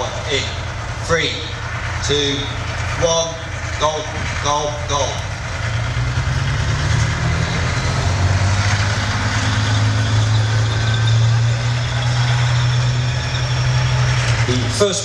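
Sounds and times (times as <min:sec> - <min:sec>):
tank diesel engines droning: 0:00.0 - 0:15.0.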